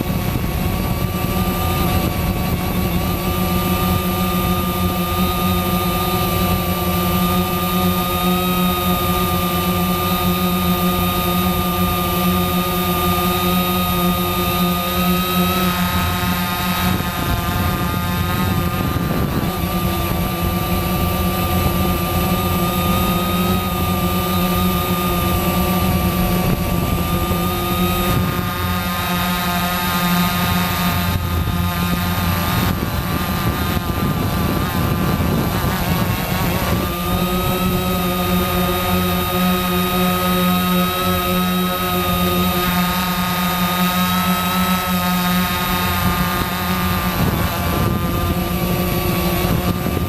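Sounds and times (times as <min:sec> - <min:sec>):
quadcopter motors whining: 0:00.0 - 0:50.0.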